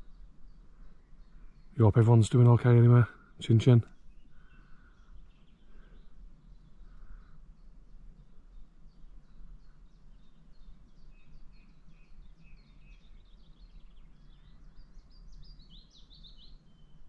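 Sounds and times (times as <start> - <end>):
low steady background rumble: 0.0 - 17.0
songbird singing: 0.0 - 17.0.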